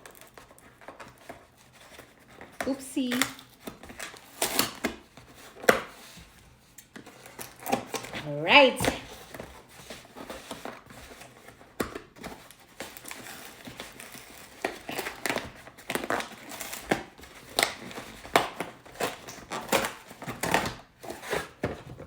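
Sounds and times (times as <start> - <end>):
packaging crinkling and tearing: 0.0 - 6.2, 6.8 - 8.2, 8.9 - 22.0.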